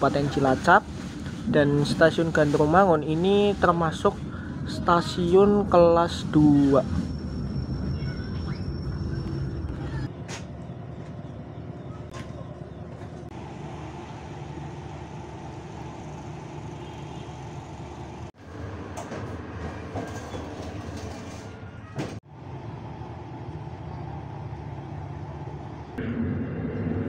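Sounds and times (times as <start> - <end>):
train carriage rumble: 0.0 - 26.0
low hum of standing train: 0.0 - 27.0.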